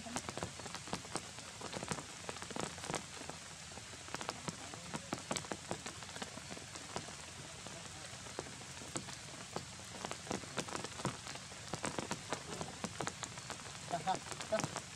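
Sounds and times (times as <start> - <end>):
rain falling: 0.0 - 14.9
raindrops ticking close by: 0.0 - 14.9.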